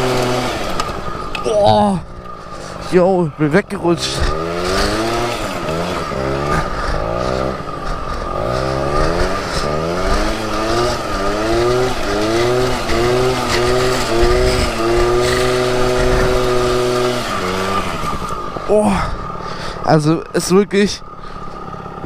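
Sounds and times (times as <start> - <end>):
scooter engine revving: 0.0 - 20.0, 21.0 - 22.0.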